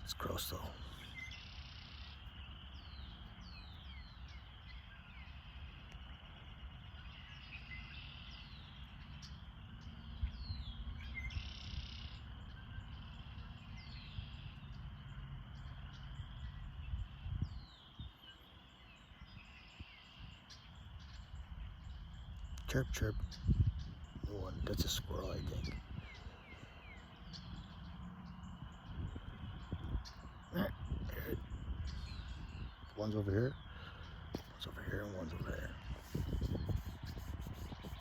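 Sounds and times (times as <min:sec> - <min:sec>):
high insect chorus: 0:00.0 - 0:38.0.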